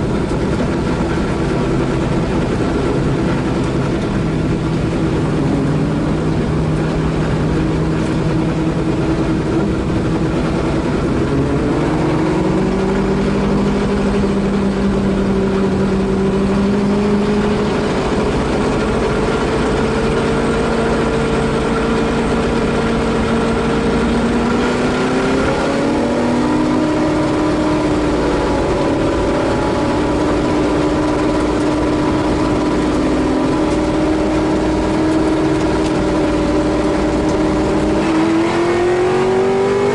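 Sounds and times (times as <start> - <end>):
race car engine: 0.0 - 39.9
road and wind noise: 0.0 - 39.9.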